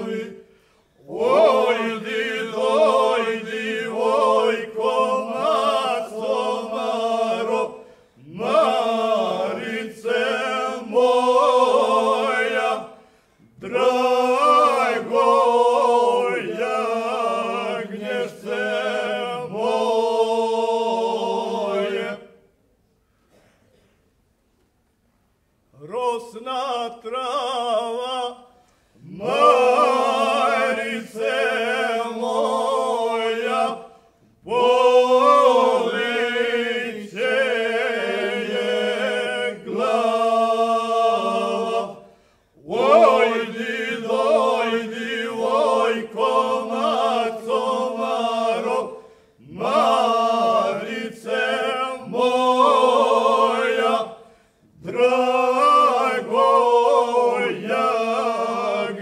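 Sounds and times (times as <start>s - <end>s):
men singing unaccompanied: 1.1s - 13.0s, 13.6s - 22.3s, 25.8s - 42.0s, 42.6s - 54.2s, 54.8s - 59.0s.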